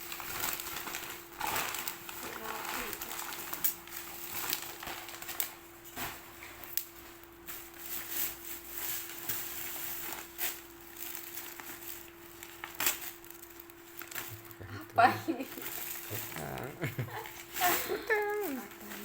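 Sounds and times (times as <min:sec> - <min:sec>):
faint steady hum: 0:00.0 - 0:19.0
packaging rustling and crinkling: 0:00.0 - 0:19.0.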